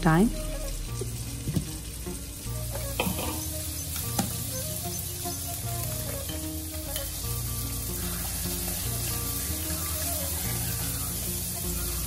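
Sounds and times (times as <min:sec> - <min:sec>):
soft background music: 0:00.0 - 0:12.0
steady hiss: 0:00.0 - 0:12.0.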